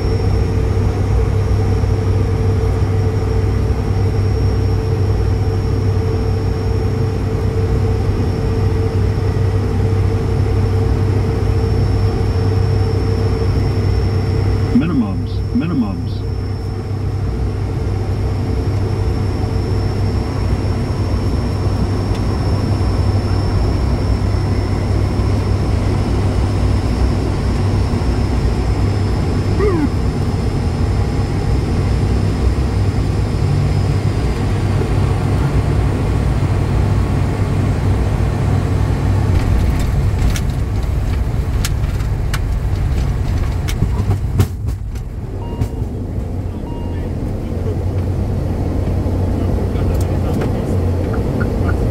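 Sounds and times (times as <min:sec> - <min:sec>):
turboprop engines droning: 0:00.0 - 0:51.9.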